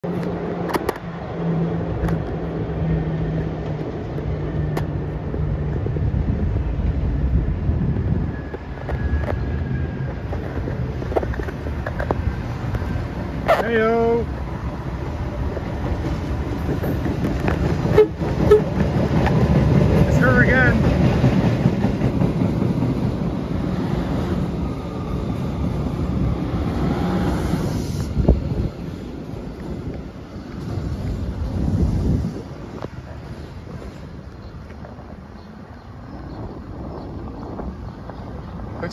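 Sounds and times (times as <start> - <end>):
subway train rumbling: 0.0 - 38.9.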